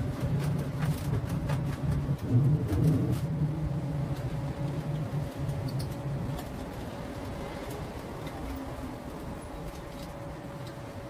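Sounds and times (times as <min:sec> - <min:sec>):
low fluttering hum: 0:00.0 - 0:11.0.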